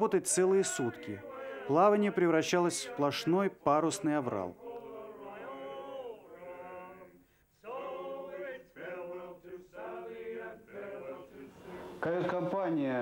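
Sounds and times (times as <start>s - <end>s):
men singing chant-like song: 0.3s - 11.6s.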